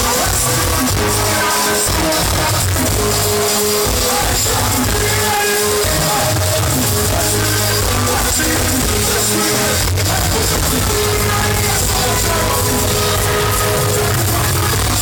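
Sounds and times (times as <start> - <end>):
heavy bass line: 0.0 - 15.0
live reggae band: 0.0 - 15.0
person singing: 0.0 - 15.0.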